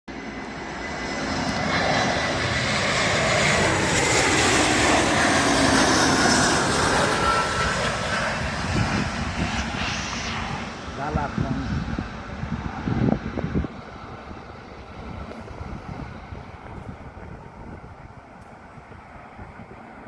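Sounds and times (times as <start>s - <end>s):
airplane engines roaring: 0.1s - 20.0s.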